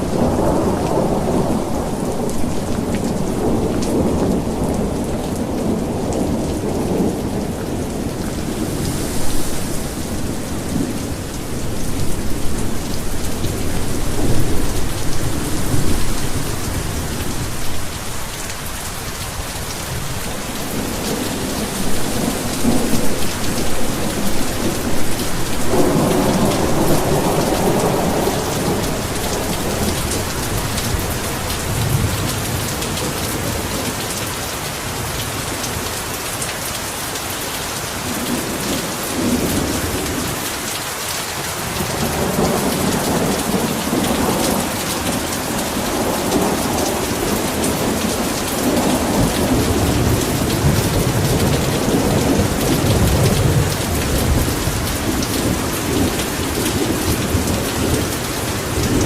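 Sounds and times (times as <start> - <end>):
rolling thunder: 0.0 - 18.2, 19.3 - 33.7, 41.8 - 59.0
heavy rain: 0.0 - 59.0.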